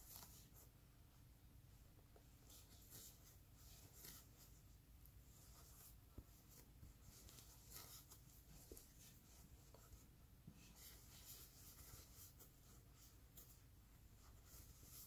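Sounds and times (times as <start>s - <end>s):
yarn rustling through stitches: 0.0s - 15.0s.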